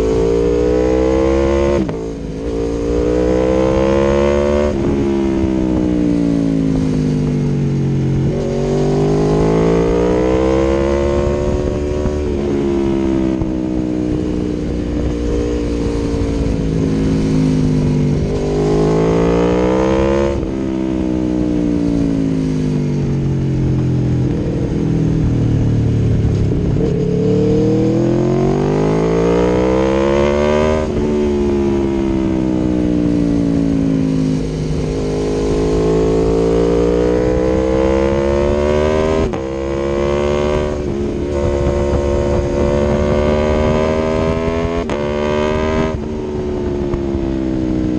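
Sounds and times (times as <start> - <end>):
motorcycle engine revving: 0.0 - 47.9
wind rush: 1.7 - 47.9.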